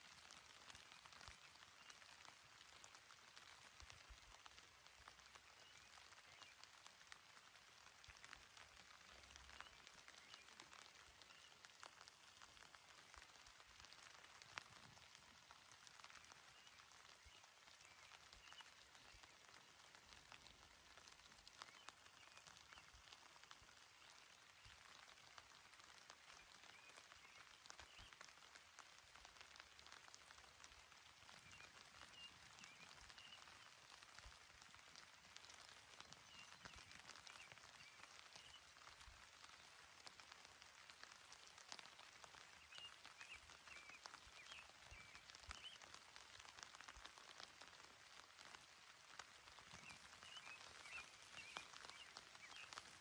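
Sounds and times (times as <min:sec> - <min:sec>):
gentle rain on grass: 0:00.0 - 0:53.0.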